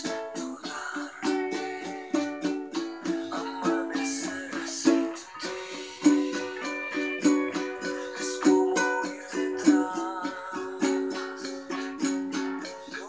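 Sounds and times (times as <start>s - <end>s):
ukulele strummed chords: 0.0s - 13.0s.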